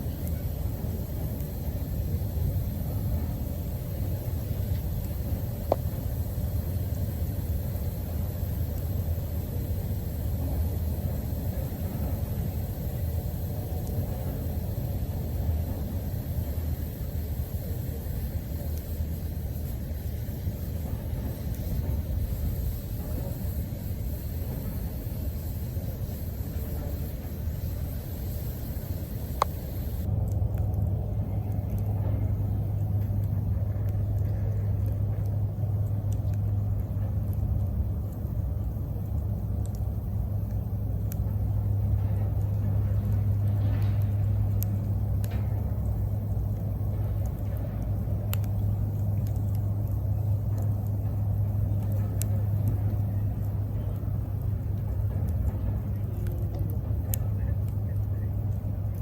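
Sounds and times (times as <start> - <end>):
low rumble and hum: 0.0 - 59.0
wood fire crackling: 0.0 - 59.0.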